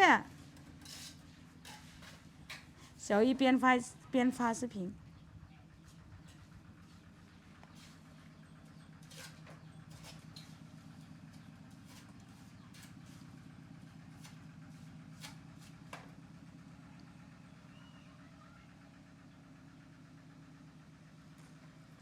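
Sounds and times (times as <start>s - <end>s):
engine idling hum: 0.0s - 22.0s.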